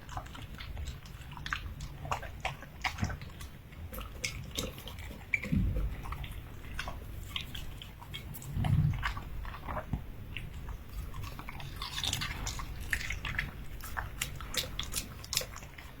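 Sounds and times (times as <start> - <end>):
puppy chewing: 0.0 - 16.0.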